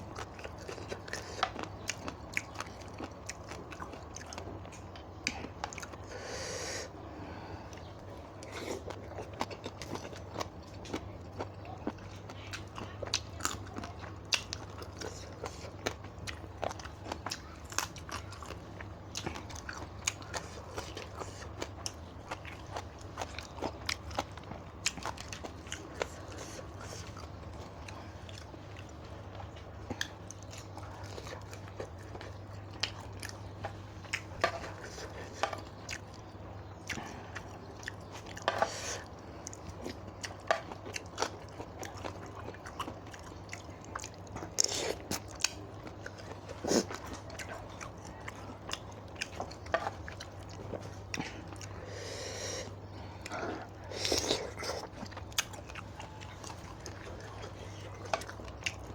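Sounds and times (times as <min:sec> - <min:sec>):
person chewing crunchy food: 0:00.0 - 0:58.9
steady low hum: 0:00.0 - 0:58.9.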